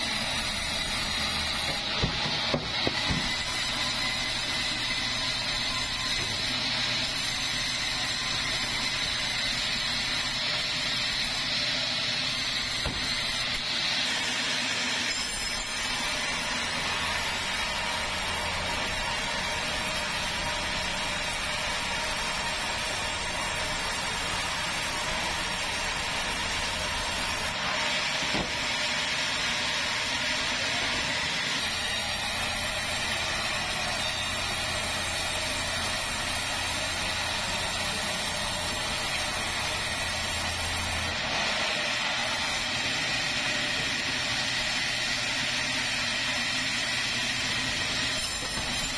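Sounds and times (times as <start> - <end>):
band saw cutting log: 0.0 - 48.9.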